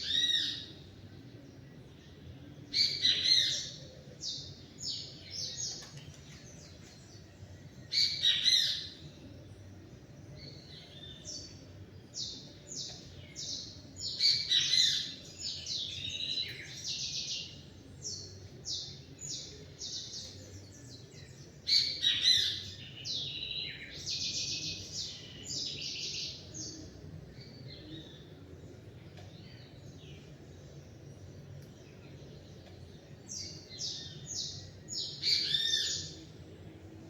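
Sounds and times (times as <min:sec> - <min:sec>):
songbirds chirping and trilling: 0:00.0 - 0:37.0.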